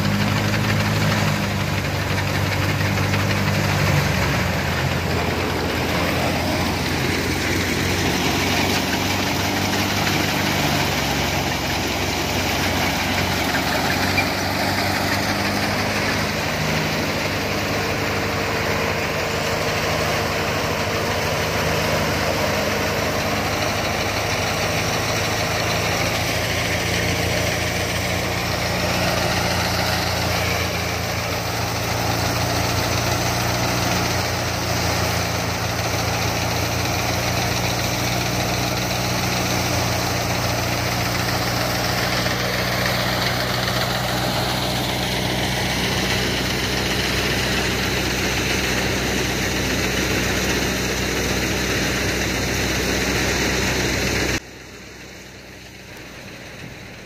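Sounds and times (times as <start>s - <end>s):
tractor diesel engine: 0.0s - 57.0s
wheat thresher running: 0.0s - 57.0s.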